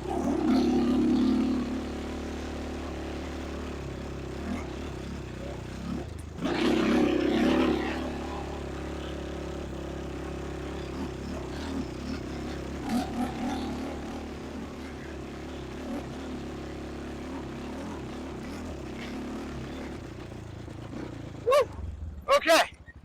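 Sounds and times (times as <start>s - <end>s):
engine throttle surge: 0.0s - 23.0s
quad bike engine running: 0.0s - 23.0s.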